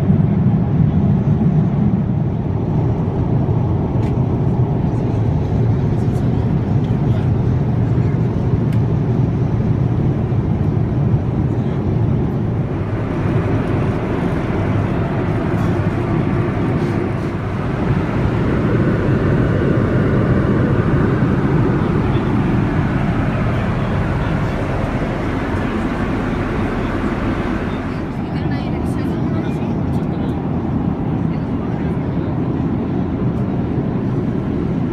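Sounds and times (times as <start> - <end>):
airliner cabin engine and air noise: 0.0 - 34.9.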